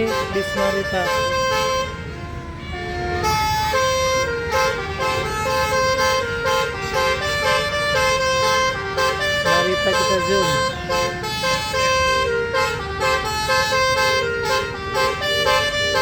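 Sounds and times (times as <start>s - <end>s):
bus musical air horn: 0.0s - 16.0s
engines and traffic rumble: 0.0s - 16.0s.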